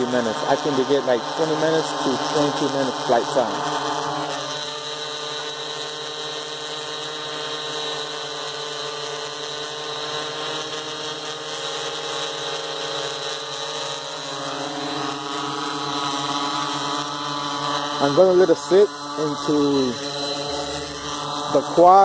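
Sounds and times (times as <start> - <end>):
quadcopter motors buzzing whine: 0.0 - 22.0.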